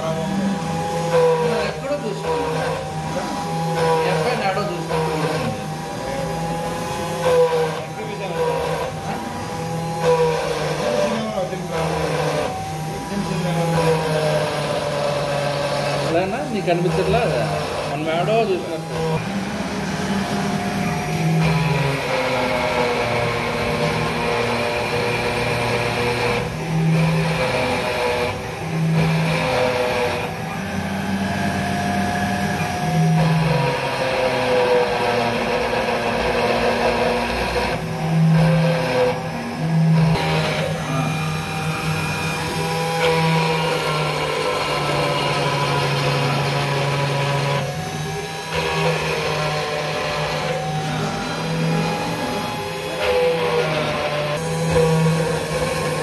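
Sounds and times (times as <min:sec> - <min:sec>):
motors whining in stepped tones: 0:00.0 - 0:56.0
spindle cutting stone: 0:00.0 - 0:56.0.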